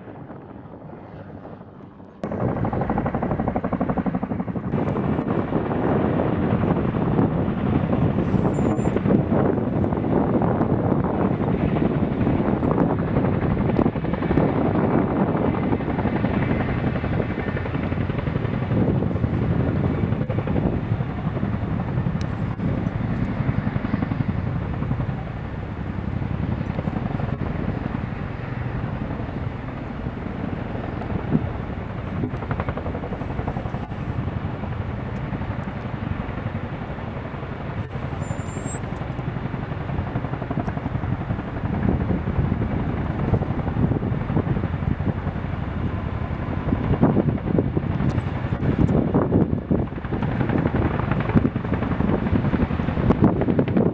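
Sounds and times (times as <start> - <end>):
helicopter rotor and turbine noise: 0.0 - 53.9.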